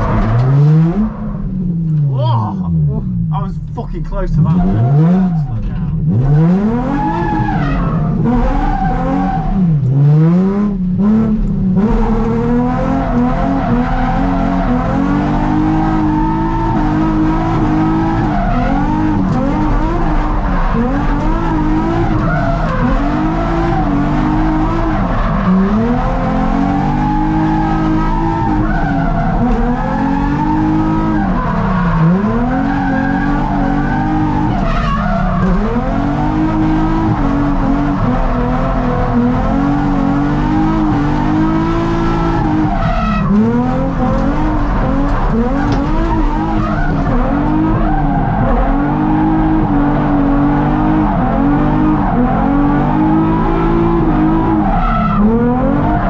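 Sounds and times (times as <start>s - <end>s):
car engine revving: 0.0s - 56.0s
tyres squealing and skidding: 4.4s - 5.9s, 6.6s - 9.8s, 12.0s - 53.4s, 54.2s - 56.0s.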